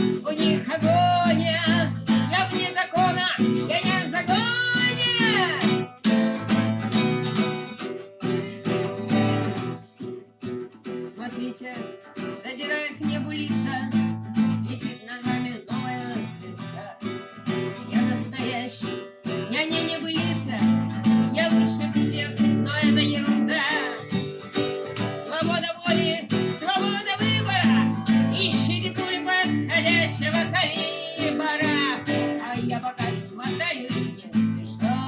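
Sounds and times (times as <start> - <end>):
acoustic guitar strumming: 0.0 - 35.0.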